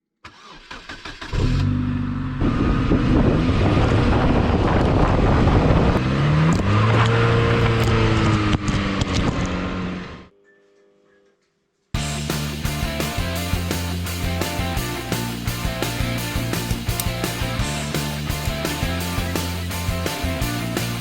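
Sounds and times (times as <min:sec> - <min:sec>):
car engine starting and revving: 0:00.3 - 0:10.3, 0:12.0 - 0:21.0.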